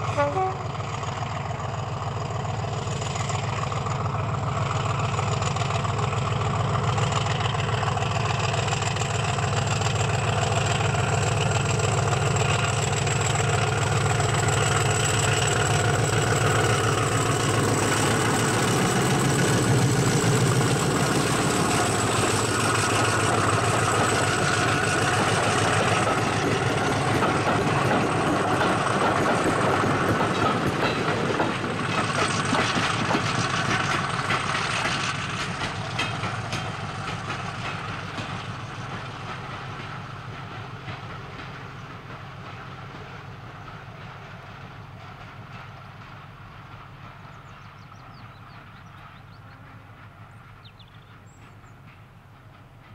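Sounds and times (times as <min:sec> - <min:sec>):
diesel locomotive engine: 0:00.0 - 0:52.9
train wheels rolling on rails: 0:00.0 - 0:52.9.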